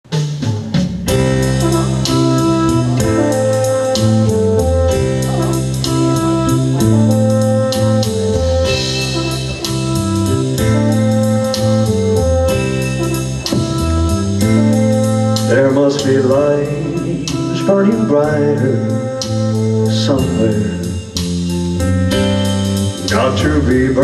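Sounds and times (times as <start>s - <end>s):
live band playing a ballad: 0.1s - 24.0s
guitar: 1.0s - 24.0s.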